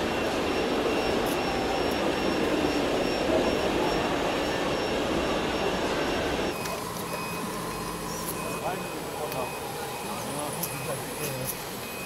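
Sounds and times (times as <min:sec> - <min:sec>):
high motor whine: 0:00.0 - 0:12.0.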